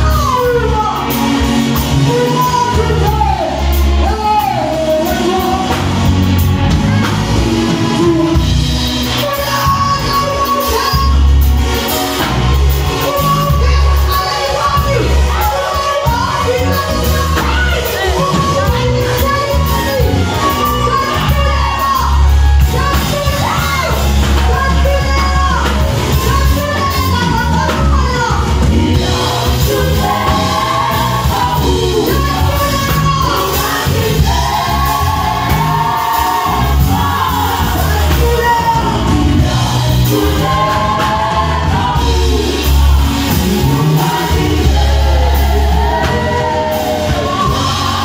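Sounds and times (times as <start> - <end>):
band with heavy bass line: 0.0 - 48.0
vocal group singing: 0.0 - 48.0.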